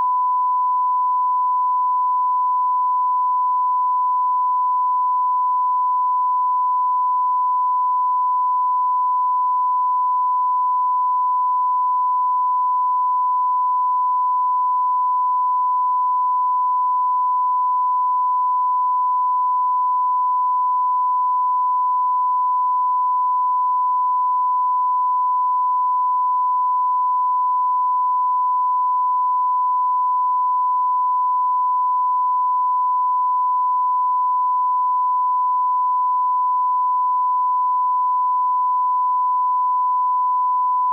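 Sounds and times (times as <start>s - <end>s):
steady censor beep: 0.0s - 40.9s.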